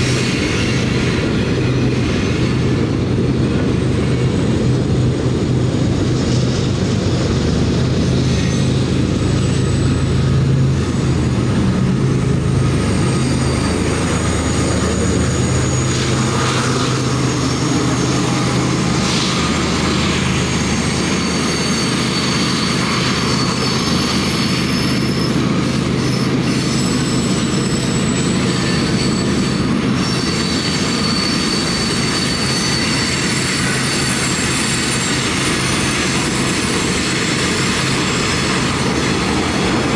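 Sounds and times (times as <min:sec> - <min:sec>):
train wheels clattering on rails: 0:00.0 - 0:39.9
high thin wheel squeals: 0:06.0 - 0:39.9.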